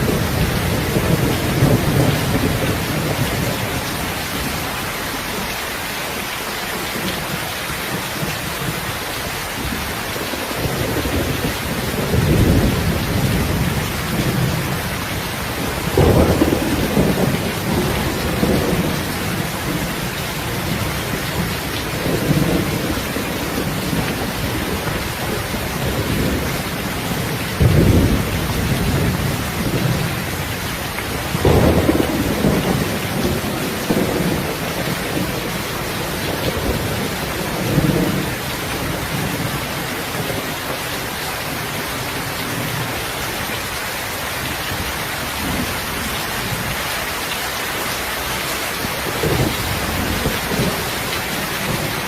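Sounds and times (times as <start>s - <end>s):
thunder rumbling: 0.0s - 5.4s, 6.9s - 43.4s, 48.3s - 52.0s
rain hissing: 0.0s - 52.0s.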